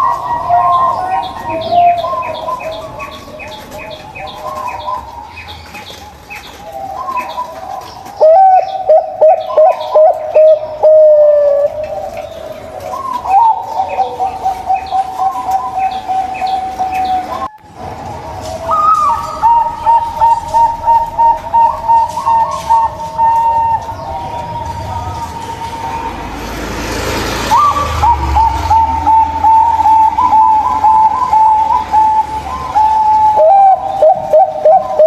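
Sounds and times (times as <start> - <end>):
doves cooing: 0.0 - 35.0.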